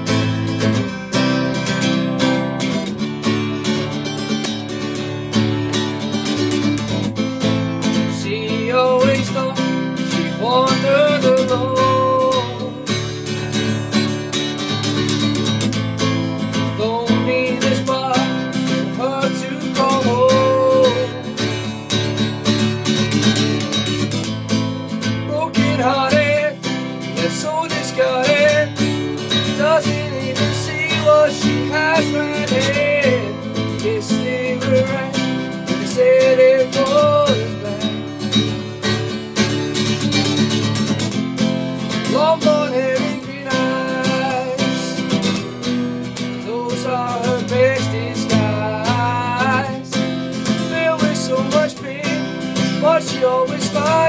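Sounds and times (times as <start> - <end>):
acoustic guitar strumming: 0.0 - 54.0
man singing: 4.9 - 24.2, 24.9 - 39.0, 40.2 - 54.0.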